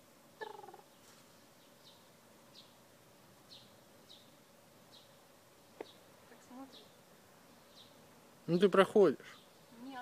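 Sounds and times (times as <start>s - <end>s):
faint steady hum: 0.0s - 10.0s
bird chirping faintly: 0.4s - 10.0s.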